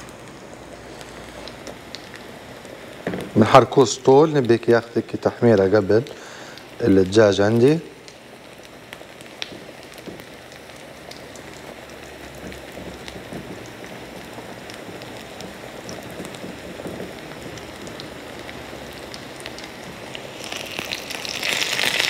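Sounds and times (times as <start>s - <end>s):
chicken sizzling in frying pan: 0.0s - 22.0s.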